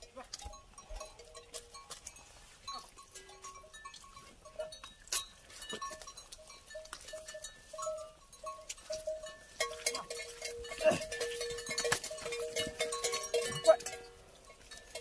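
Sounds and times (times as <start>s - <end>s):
metal animal bell clanking: 0.0s - 15.0s.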